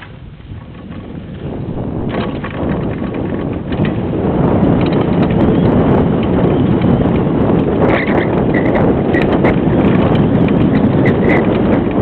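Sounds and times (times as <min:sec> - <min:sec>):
bike rattling over bumps: 0:00.0 - 0:12.0
tyres on loose dirt: 0:00.0 - 0:12.0
wind rushing over microphone: 0:00.0 - 0:12.0.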